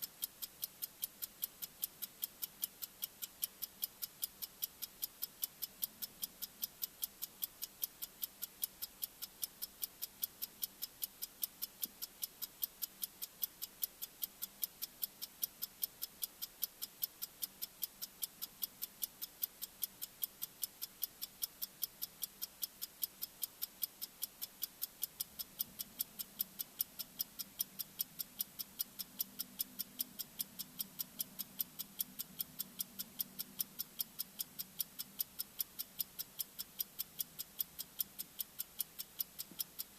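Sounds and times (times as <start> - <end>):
high-pitched clock ticks: 0.0 - 39.9.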